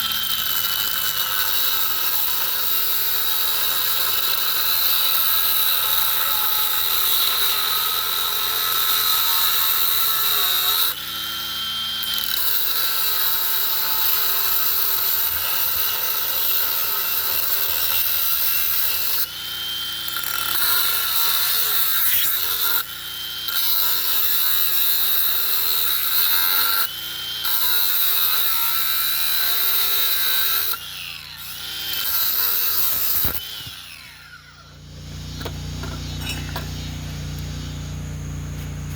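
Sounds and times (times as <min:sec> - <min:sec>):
angle grinder on steel pipe: 0:00.0 - 0:38.9.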